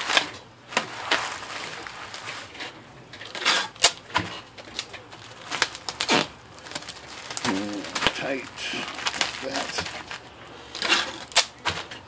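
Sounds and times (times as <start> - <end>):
bubble wrap crinkling: 0.0 - 12.0
packing tape ripping from tape gun: 0.0 - 12.0.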